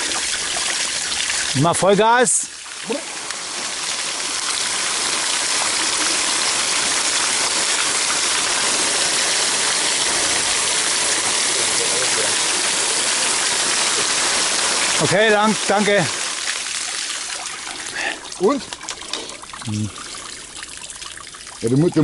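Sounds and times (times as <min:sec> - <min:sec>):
water rushing and splashing: 0:00.0 - 0:22.0.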